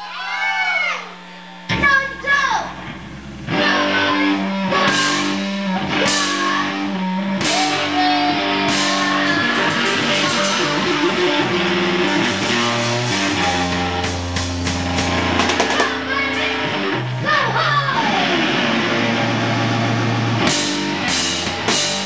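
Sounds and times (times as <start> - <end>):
live rock music: 1.6 - 22.0.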